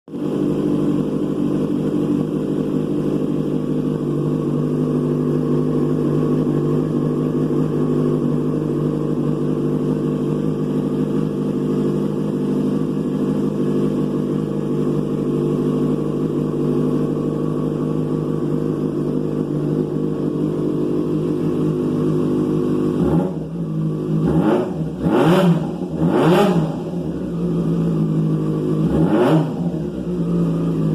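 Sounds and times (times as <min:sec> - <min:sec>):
motorcycle engine idling: 0:00.1 - 0:30.9
motorcycle engine revving: 0:00.2 - 0:30.9.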